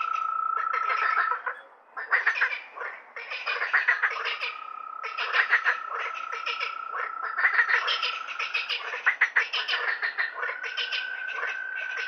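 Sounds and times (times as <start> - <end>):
frogs croaking: 0.0 - 12.0.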